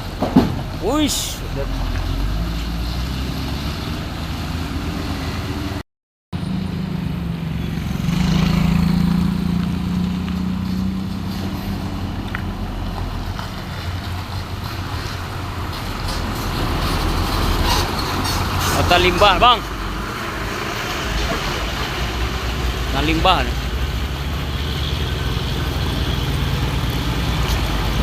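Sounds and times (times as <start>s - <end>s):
vehicle engine drone: 0.0s - 5.8s, 6.4s - 28.0s
road traffic: 0.0s - 28.0s.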